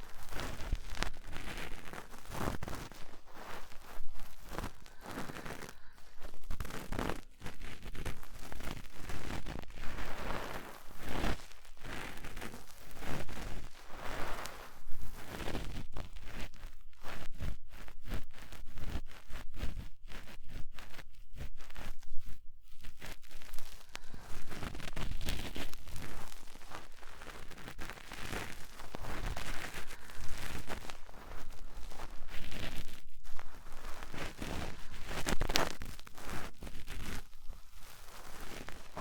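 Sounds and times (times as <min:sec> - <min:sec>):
cotton swab scratching microphone: 0:00.0 - 0:39.0.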